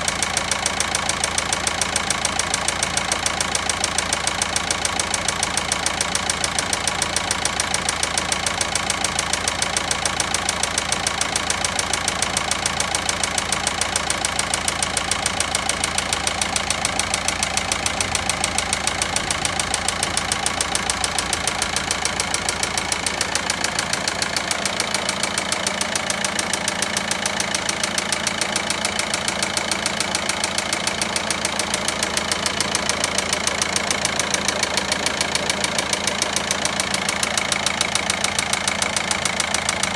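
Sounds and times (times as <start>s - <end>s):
diesel engine idling with knocking: 0.0s - 39.9s.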